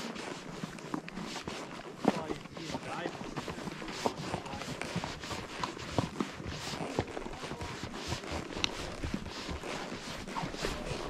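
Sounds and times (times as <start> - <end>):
horse hooves clopping on dirt trail: 0.0 - 11.0.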